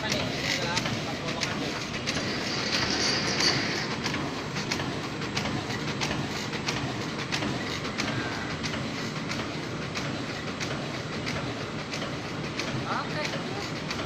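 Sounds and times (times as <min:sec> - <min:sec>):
paper cutting machine running: 0:00.0 - 0:14.0
sharp machine clack: 0:00.0 - 0:14.0.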